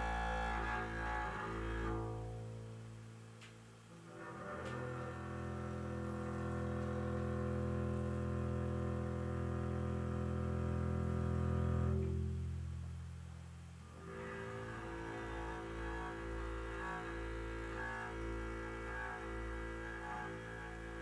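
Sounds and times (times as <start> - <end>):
double bass bowed note: 0.0 - 3.1, 4.0 - 21.0.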